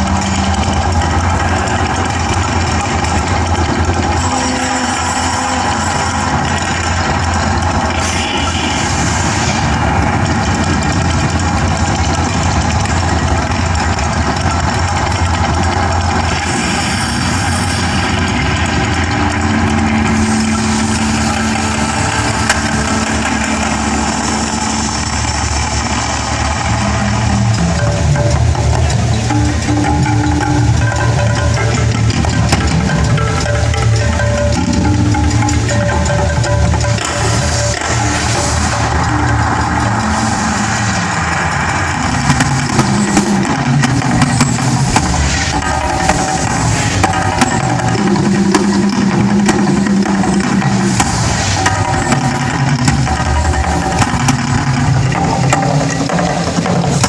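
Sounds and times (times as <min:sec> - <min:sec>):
low hum: 0:00.0 - 0:57.0
low rumbling roar: 0:00.0 - 0:57.0.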